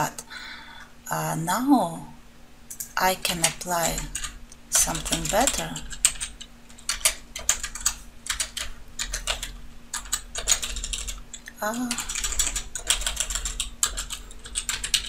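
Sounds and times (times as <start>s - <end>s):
computer keyboard typing: 2.7s - 15.0s.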